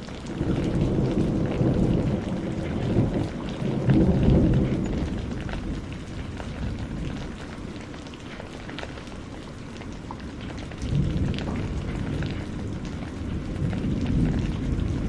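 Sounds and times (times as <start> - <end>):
low rumble of thunder: 0.0 - 15.0
rain drops pattering: 0.0 - 15.0.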